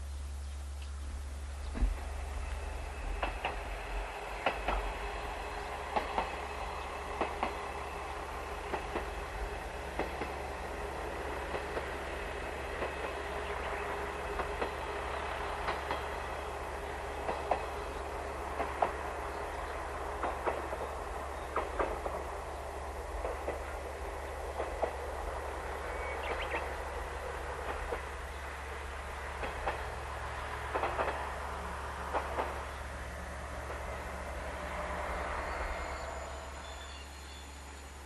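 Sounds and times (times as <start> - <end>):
railcar running hum: 0.0 - 38.0
wheels clicking over rail joints: 1.6 - 34.1.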